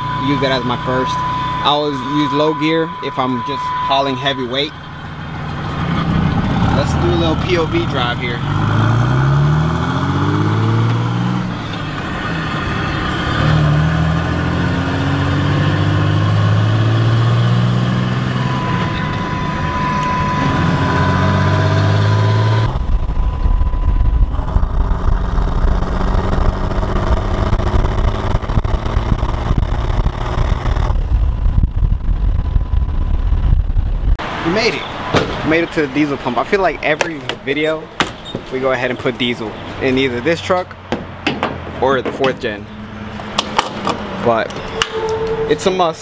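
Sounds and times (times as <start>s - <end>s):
wind and road noise: 0.0s - 46.0s.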